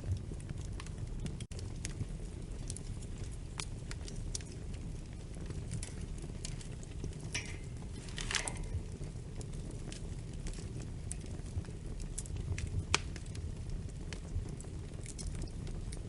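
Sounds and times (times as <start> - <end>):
hissing crackles: 0.0 - 16.0
wood fire crackling: 0.0 - 16.0.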